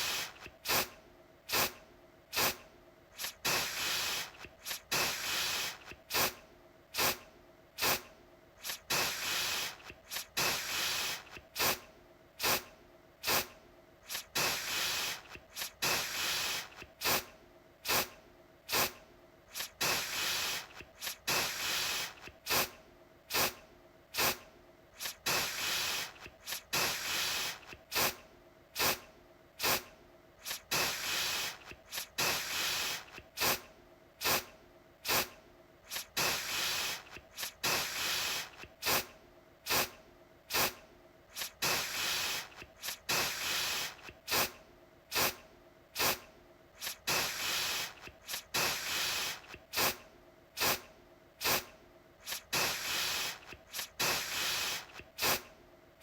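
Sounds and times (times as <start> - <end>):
aerosol spray hissing: 0.0 - 2.6, 3.2 - 6.4, 7.0 - 7.2, 7.8 - 11.8, 12.4 - 23.6, 24.2 - 24.4, 25.0 - 28.2, 28.8 - 29.0, 29.6 - 35.3, 35.9 - 39.1, 39.7 - 45.4, 46.0 - 46.2, 46.8 - 50.0, 50.6 - 55.5.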